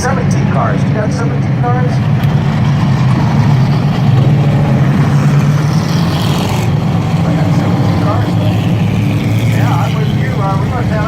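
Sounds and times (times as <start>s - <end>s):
stock car engines droning: 0.0s - 11.0s.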